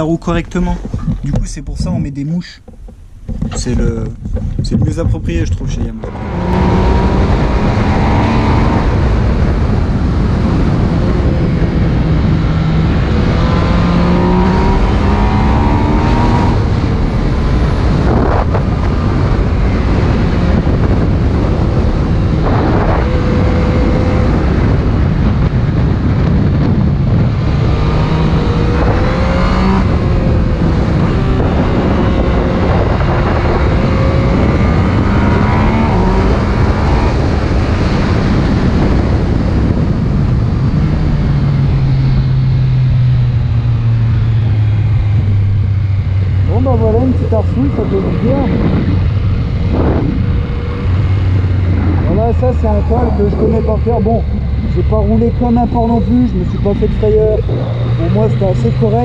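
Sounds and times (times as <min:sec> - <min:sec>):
wind rush on microphone: 0:00.0 - 0:59.0
motorcycle engine revving: 0:02.6 - 0:59.0.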